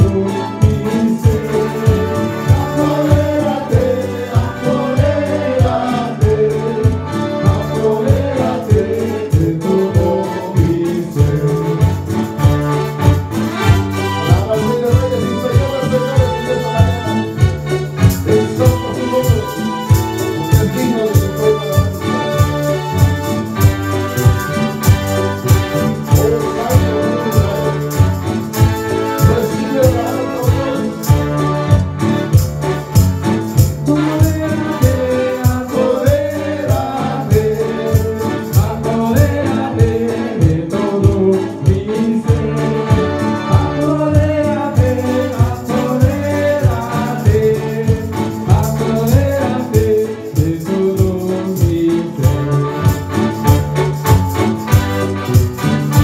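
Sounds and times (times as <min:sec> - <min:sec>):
man singing into a microphone: 0:00.0 - 0:32.7, 0:33.4 - 0:56.0
electronic keyboards: 0:00.0 - 0:56.0
steady beat: 0:00.0 - 0:56.0.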